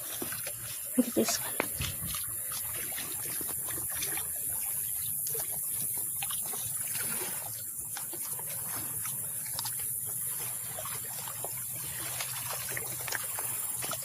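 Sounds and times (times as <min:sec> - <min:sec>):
small waves lapping: 0:00.0 - 0:14.0.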